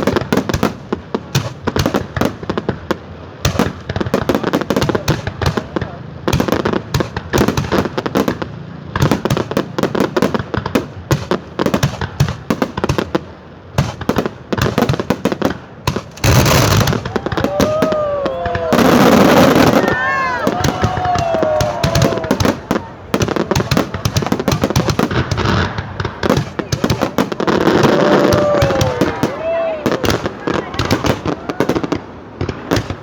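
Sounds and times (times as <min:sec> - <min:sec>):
fireworks cracking and banging: 0:00.0 - 0:33.0.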